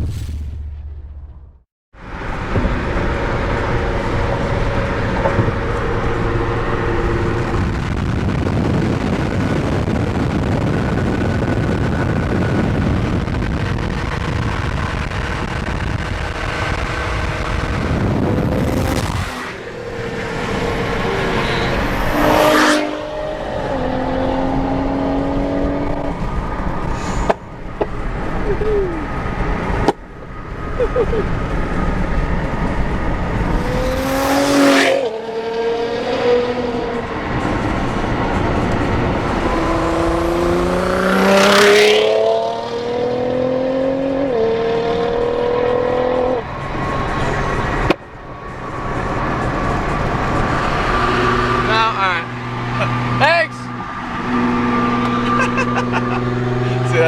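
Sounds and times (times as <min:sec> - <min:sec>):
car engines at full throttle: 0:02.0 - 0:57.0.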